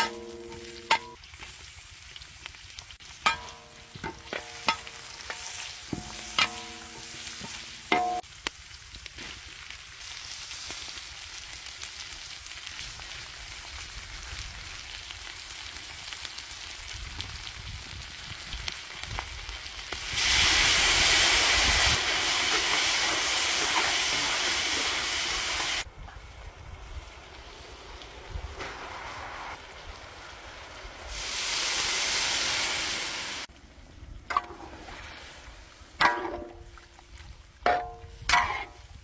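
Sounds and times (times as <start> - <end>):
chicken sizzling in hot oil: 0.0 - 39.0.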